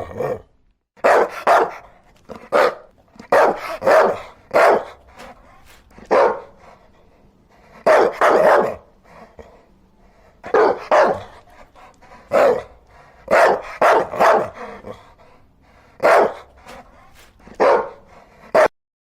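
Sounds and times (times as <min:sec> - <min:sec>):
dog barking: 0:01.0 - 0:07.0, 0:07.7 - 0:09.6, 0:10.4 - 0:15.1, 0:15.9 - 0:18.7.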